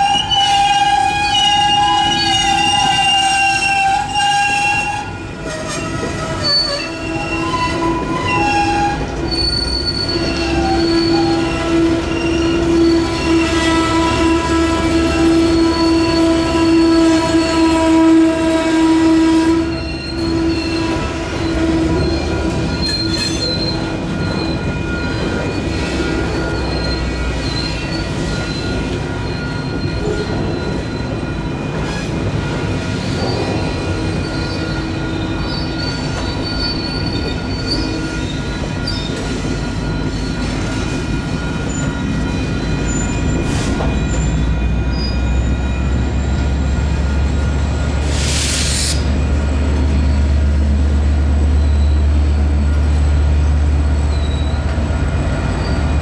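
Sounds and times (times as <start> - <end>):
crossing warning bells: 0.0 - 56.0
low rumble of train: 0.0 - 56.0
train wheels squealing: 0.0 - 56.0.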